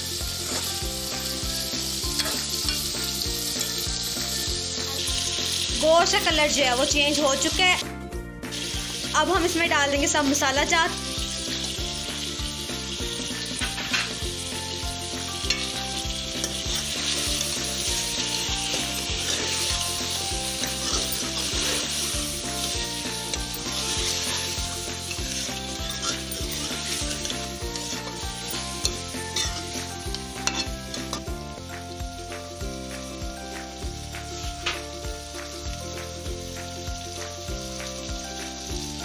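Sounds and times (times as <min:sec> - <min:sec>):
chicken sizzling in oil: 0:00.0 - 0:39.0.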